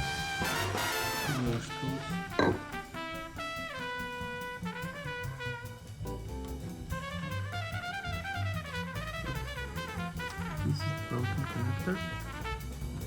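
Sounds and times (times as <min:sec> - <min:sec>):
jazz music with brass: 0:00.0 - 0:13.0
steady drum beat: 0:00.0 - 0:13.0.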